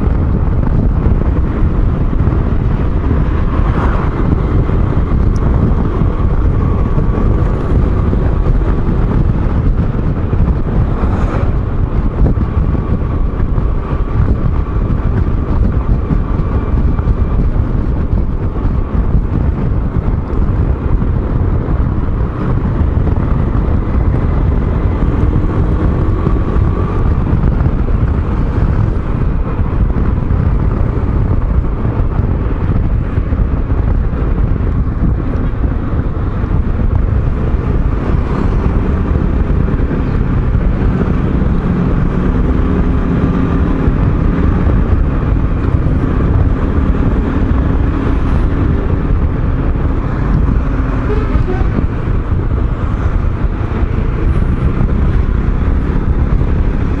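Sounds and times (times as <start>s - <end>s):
scooter engine humming: 0.0s - 57.0s
wind on microphone: 0.0s - 57.0s.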